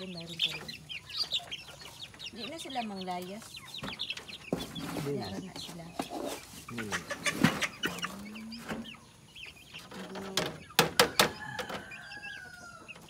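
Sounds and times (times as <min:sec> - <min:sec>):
chicks cheeping and clucking: 0:00.0 - 0:13.0.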